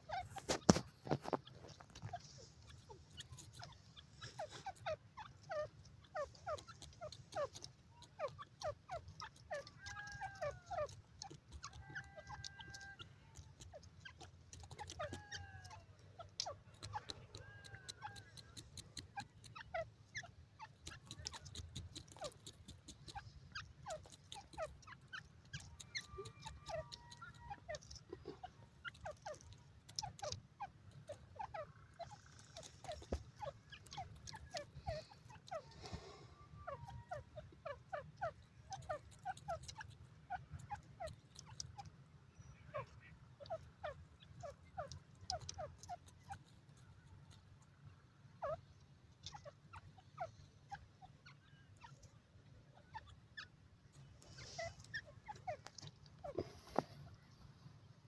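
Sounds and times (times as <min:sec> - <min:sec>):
bird pecking and scratching soil: 0:00.0 - 0:58.0
soft bird chirps: 0:00.0 - 0:58.0.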